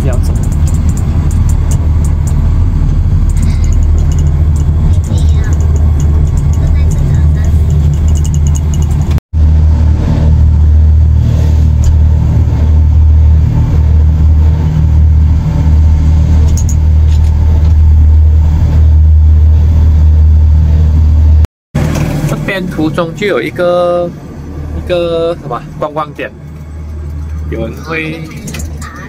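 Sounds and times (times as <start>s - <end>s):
rail car droning: 0.0s - 29.0s.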